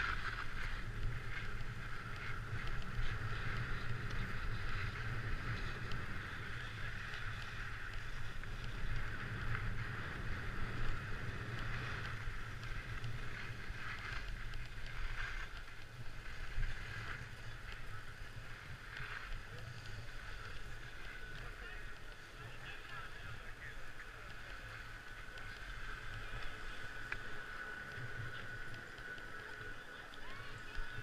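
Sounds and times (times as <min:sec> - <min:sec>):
skis sliding over snow: 0:00.0 - 0:31.0.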